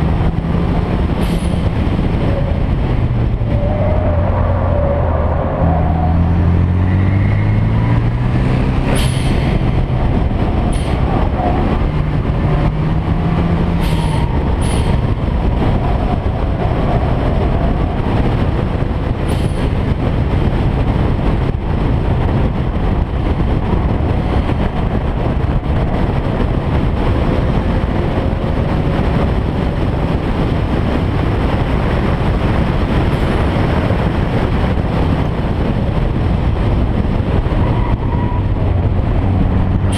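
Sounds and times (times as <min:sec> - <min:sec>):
car engine roaring: 0:00.0 - 0:39.9.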